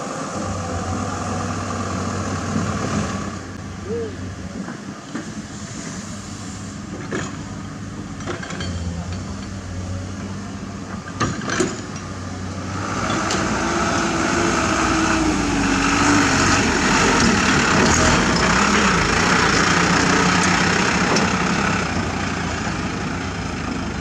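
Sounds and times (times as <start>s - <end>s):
diesel machinery engine running: 0.0s - 24.0s.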